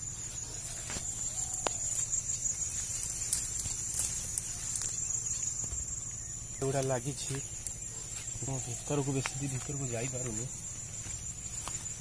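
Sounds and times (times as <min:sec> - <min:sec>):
crickets chirring: 0:00.0 - 0:12.0
rustling leaves and twigs: 0:00.0 - 0:12.0.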